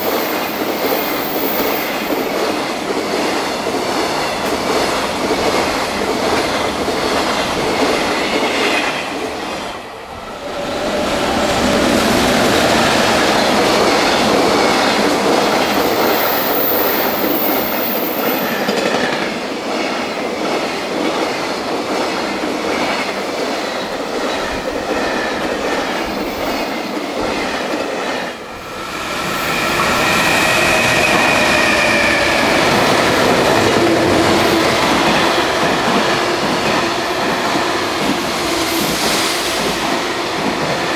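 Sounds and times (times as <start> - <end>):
freight trains passing: 0.0 - 40.9.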